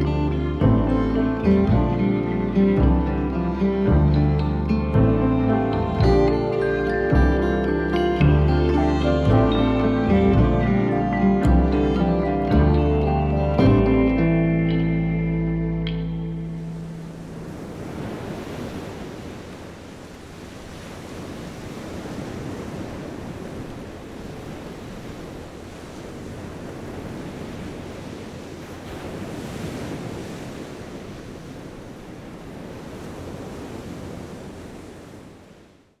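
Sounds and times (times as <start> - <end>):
ocean waves washing in: 0.0 - 36.0.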